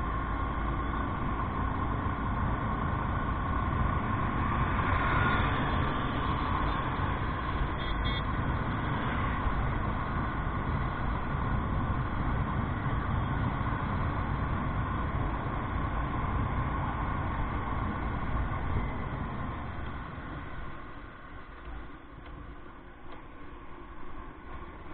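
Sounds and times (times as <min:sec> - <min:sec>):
motorcycle engine rumble: 0:00.0 - 0:24.9.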